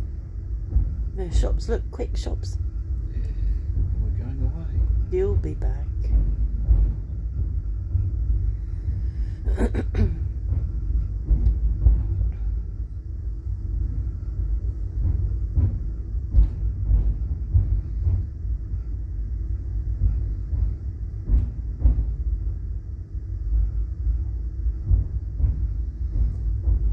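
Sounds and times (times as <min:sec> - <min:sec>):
train knocks and clunks: 0:00.0 - 0:26.9
train low rumble: 0:00.0 - 0:26.9.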